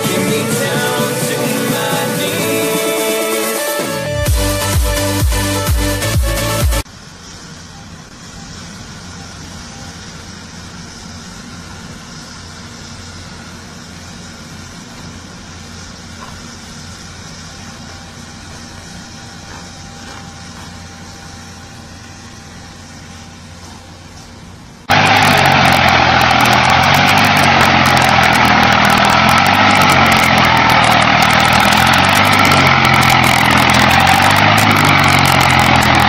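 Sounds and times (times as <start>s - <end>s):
excavator diesel engine idling: 0.0s - 3.6s, 6.8s - 36.0s.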